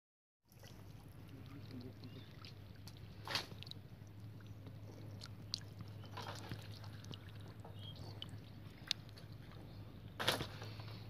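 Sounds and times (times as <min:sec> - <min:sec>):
small water splashes: 0:00.4 - 0:10.8
wet clicks in muddy water: 0:00.5 - 0:09.7
steady low hum: 0:00.5 - 0:11.0.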